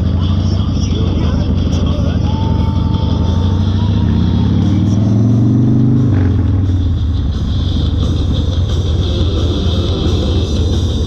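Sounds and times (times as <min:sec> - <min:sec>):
motorcycle accelerating: 0:00.0 - 0:11.0.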